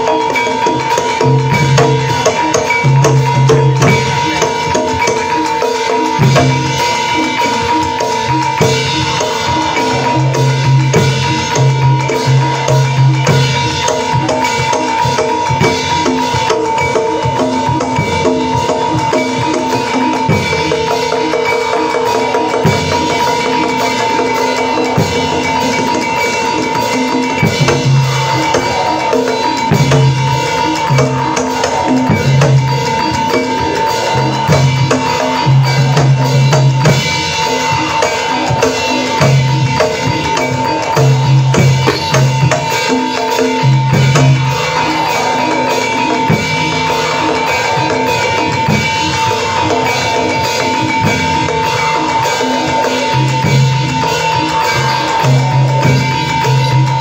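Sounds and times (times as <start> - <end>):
drums and struck percussion: 0.0 - 57.0
steady high tone: 0.0 - 57.0.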